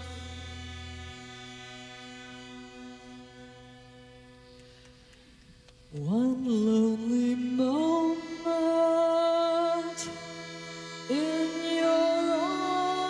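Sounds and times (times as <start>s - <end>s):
faint sustained drone: 0.0s - 5.4s, 6.1s - 13.0s
live band music: 0.0s - 13.0s.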